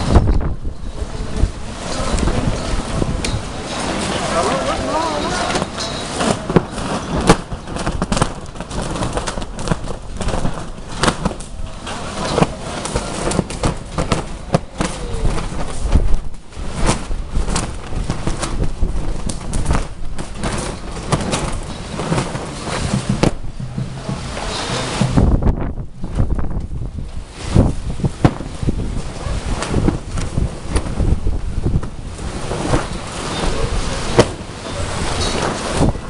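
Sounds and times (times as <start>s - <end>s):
storm wind buffeting microphone: 0.0s - 5.8s, 6.4s - 36.0s
tarp flapping and snapping: 0.0s - 36.0s.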